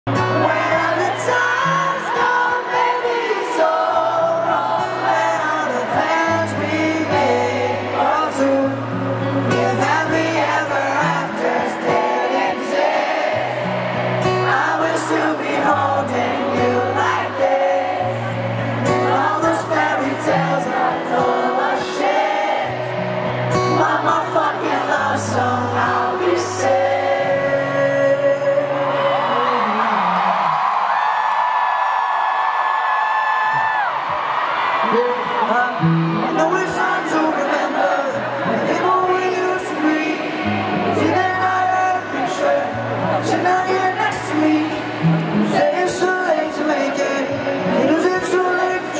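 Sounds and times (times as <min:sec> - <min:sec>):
man singing: 0:00.1 - 0:13.0, 0:14.3 - 0:22.5, 0:23.5 - 0:30.5, 0:34.8 - 0:48.9
strummed acoustic guitars: 0:00.1 - 0:29.7, 0:35.2 - 0:48.9.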